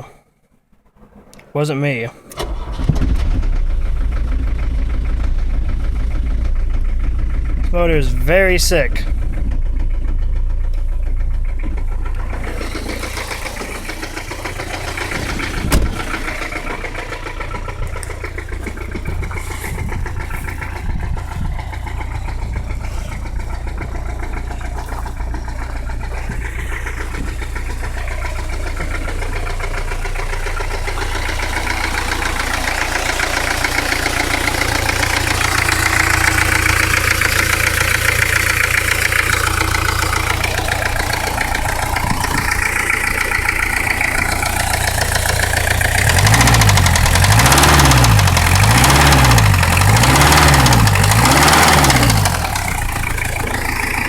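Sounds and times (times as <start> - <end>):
diesel engine with rod knock: 2.3 - 54.0.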